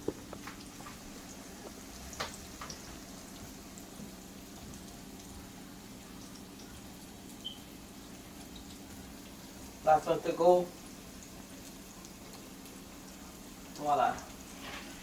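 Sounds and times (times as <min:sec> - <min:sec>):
food sizzling in hot oil: 0:00.0 - 0:15.0
oil popping and crackling: 0:00.0 - 0:15.0.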